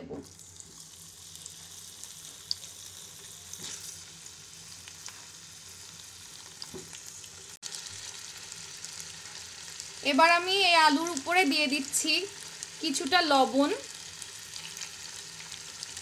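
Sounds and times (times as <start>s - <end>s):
potatoes sizzling in oil: 0.2s - 16.0s.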